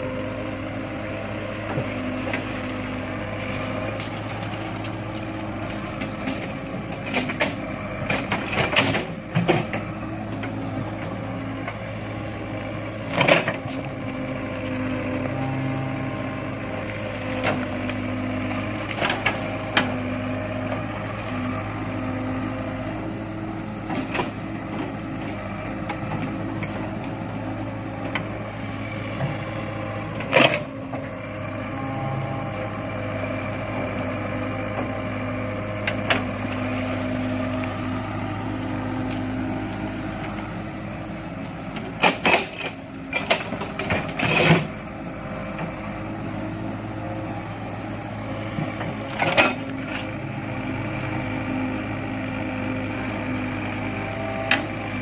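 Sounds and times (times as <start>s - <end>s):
excavator diesel engine running: 0.0s - 55.0s
hydraulic hum: 0.0s - 55.0s.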